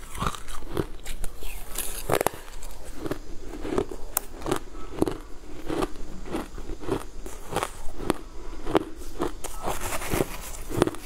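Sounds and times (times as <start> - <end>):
ice crunching between teeth: 0.0 - 11.0.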